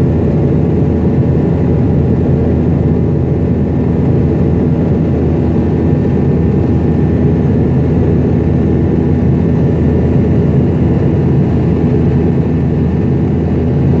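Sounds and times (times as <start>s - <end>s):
jet engine cabin drone: 0.0s - 14.0s.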